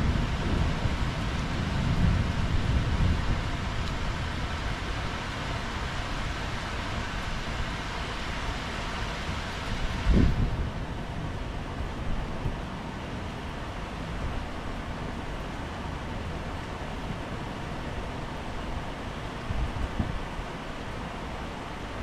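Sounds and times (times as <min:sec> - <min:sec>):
rain falling steadily: 0:00.0 - 0:22.0.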